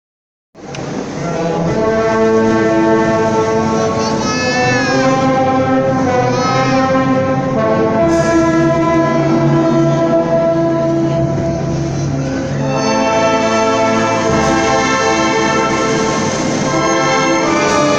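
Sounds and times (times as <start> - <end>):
orchestra playing sustained chords: 0.6 - 17.9.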